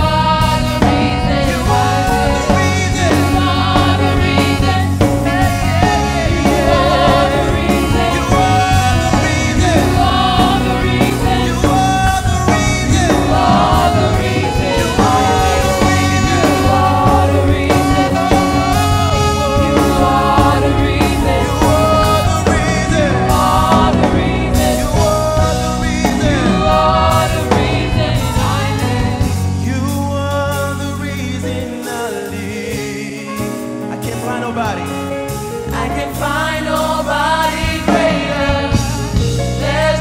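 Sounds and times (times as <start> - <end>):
band with steady bass: 0.0 - 40.0
voices singing gospel: 0.0 - 40.0.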